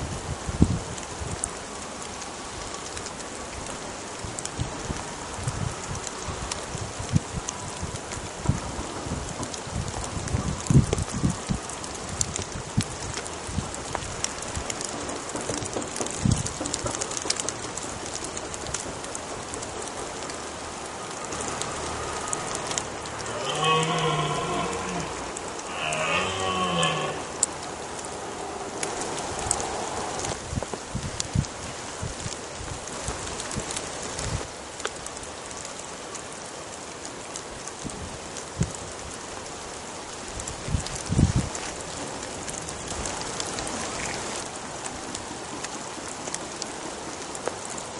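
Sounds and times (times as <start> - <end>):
rain on vegetation: 0.0 - 47.9.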